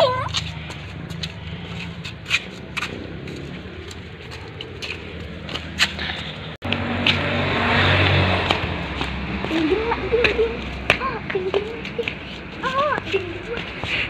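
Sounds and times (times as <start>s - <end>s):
sandals slapping on concrete: 0.2s - 7.3s, 8.0s - 14.0s
loud steady rushing noise: 0.4s - 14.0s.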